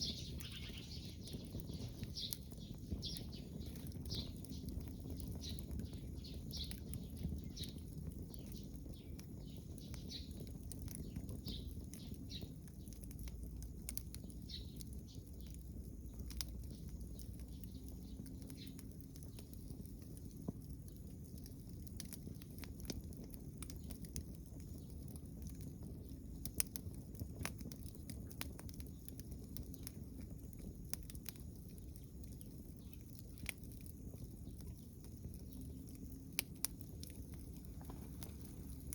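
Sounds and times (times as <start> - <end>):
low steady rumble: 0.0 - 38.9
wood fire crackling and popping: 0.0 - 38.9.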